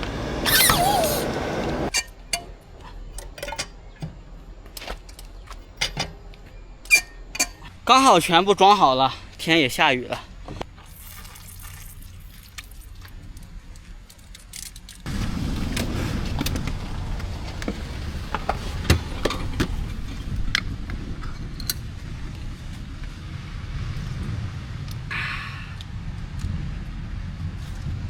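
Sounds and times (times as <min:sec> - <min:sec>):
vehicle low rumble: 0:00.0 - 0:28.0.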